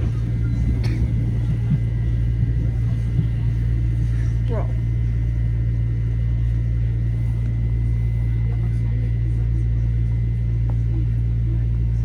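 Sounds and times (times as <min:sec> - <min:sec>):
electric train car hum: 0:00.0 - 0:12.0.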